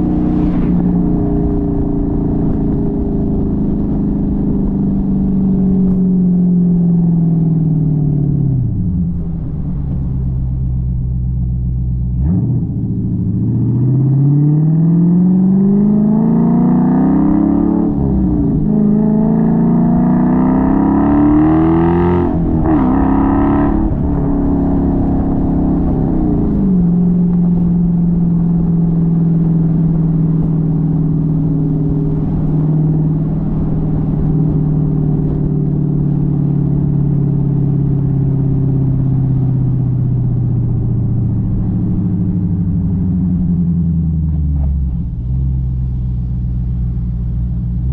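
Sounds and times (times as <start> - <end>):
car engine accelerating: 0.0 - 47.9.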